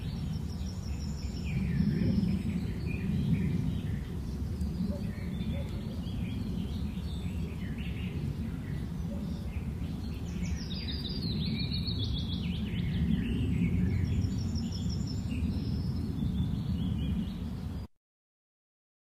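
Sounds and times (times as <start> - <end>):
birds chirping and singing: 0.0 - 17.8.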